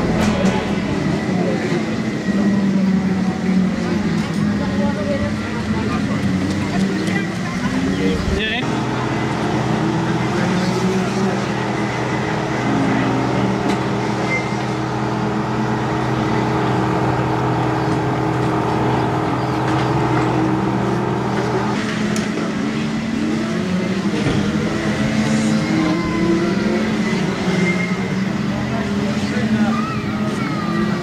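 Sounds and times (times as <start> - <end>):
go-kart engines running: 0.0 - 31.0.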